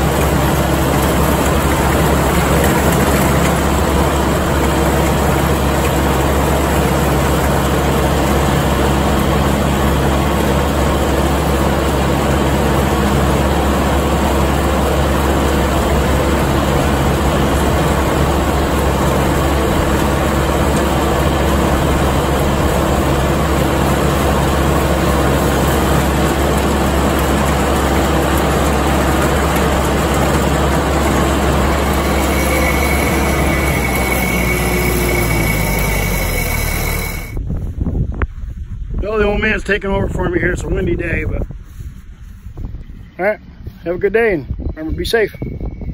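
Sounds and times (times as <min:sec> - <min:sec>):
mower rattling through hay: 0:00.0 - 0:37.4
tractor diesel engine running: 0:00.0 - 0:45.9.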